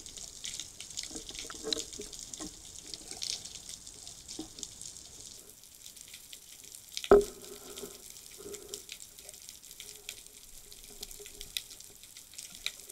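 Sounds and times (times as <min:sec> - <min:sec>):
faint underwater clicks: 0:00.0 - 0:12.9.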